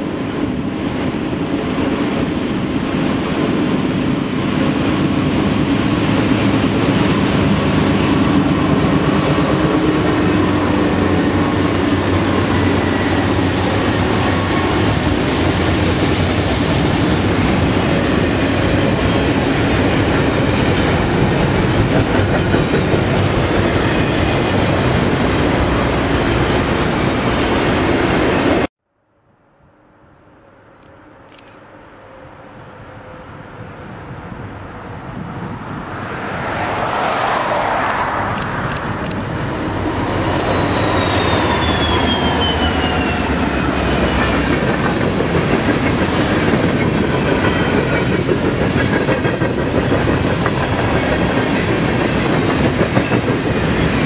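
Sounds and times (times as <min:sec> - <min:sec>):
diesel locomotive passing: 0:00.0 - 0:28.7, 0:30.4 - 0:54.0.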